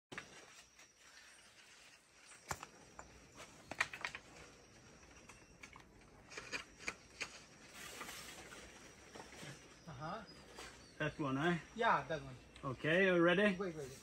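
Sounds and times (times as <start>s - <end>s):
twigs and leaves crackling: 0.1s - 11.4s.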